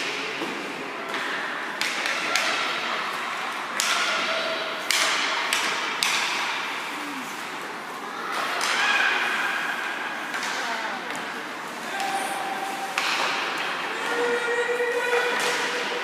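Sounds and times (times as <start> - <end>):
sticks and puck clacking: 0.0 - 16.0.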